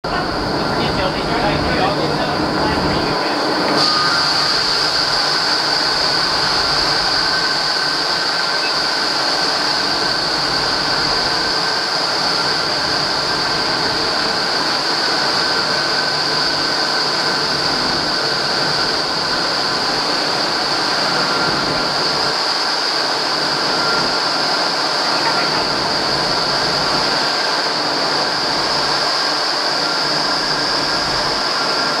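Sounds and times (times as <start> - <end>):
wind tunnel air rushing with whine: 0.0 - 32.0.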